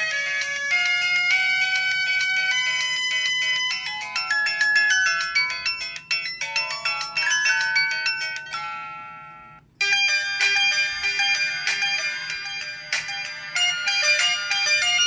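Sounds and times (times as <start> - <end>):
electronic ringtone melody: 0.0 - 15.0.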